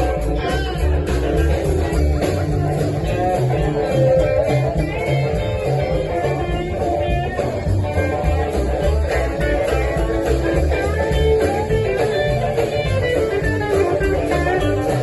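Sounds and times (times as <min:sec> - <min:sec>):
bass line: 0:00.0 - 0:15.0
electric guitar: 0:00.0 - 0:15.0
live blues band playing: 0:00.0 - 0:15.0.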